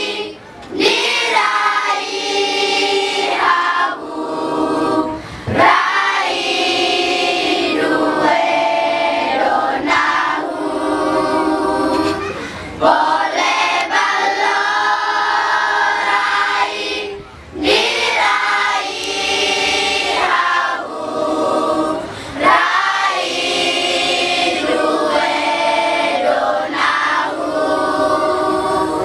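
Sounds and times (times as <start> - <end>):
children's choir singing: 0.0 - 29.0.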